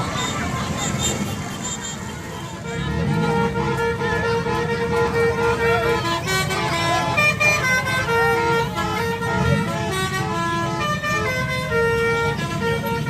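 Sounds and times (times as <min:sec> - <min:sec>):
bus engine running: 0:00.0 - 0:13.0
bus horn playing a tune: 0:00.0 - 0:13.0.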